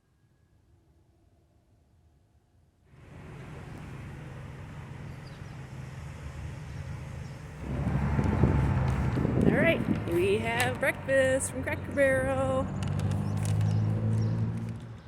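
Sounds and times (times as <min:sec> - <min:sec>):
road noise: 0:02.9 - 0:15.0
vehicle engine running: 0:02.9 - 0:15.0.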